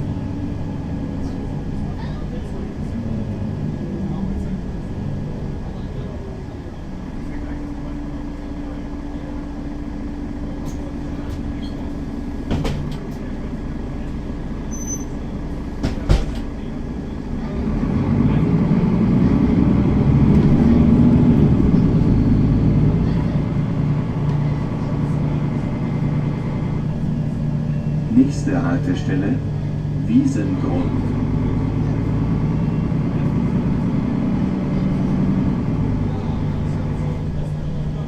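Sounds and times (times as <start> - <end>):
bus engine running: 0.0 - 38.0.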